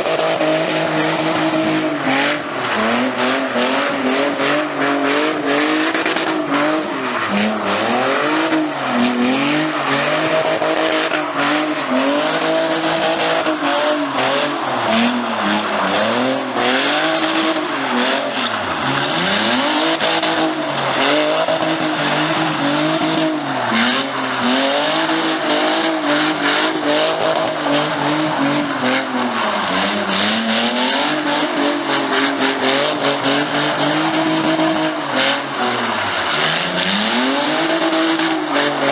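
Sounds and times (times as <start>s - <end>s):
car engine revving hard: 0.0s - 38.9s.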